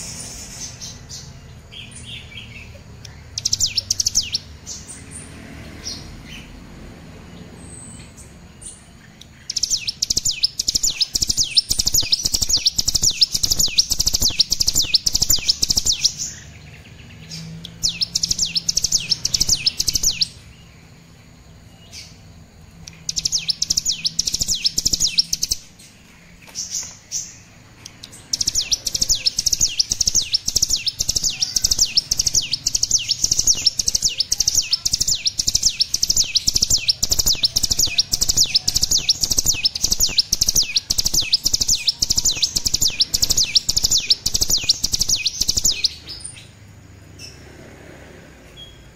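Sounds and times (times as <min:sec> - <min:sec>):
bird chirping rapidly: 0:00.0 - 0:47.6.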